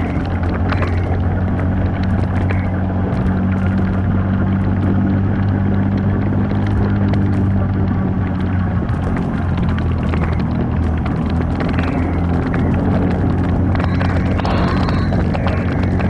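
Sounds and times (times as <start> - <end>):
light clicks and rattles: 0.0 - 16.0
vehicle engine running: 0.0 - 16.0.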